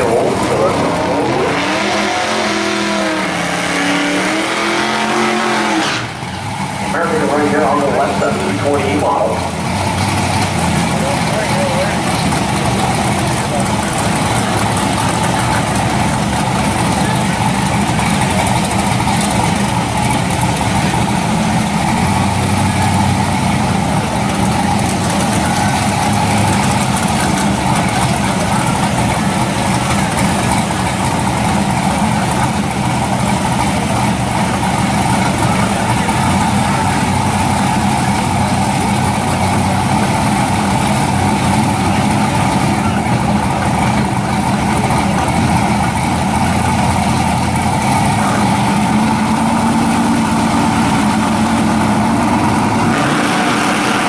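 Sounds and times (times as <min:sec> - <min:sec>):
drag car engines idling: 0:00.0 - 0:54.0.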